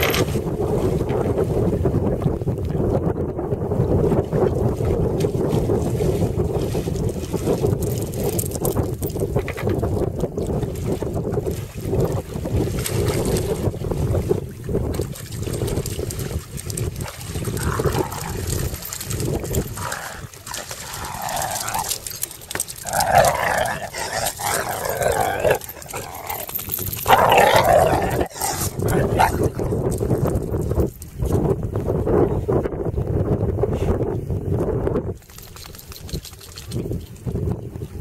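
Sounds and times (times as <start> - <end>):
wind noise on microphone: 0.0 - 38.0.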